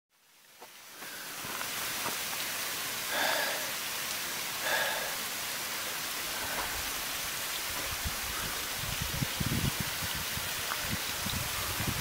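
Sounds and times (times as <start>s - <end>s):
stream running over rocks: 0.1s - 12.0s.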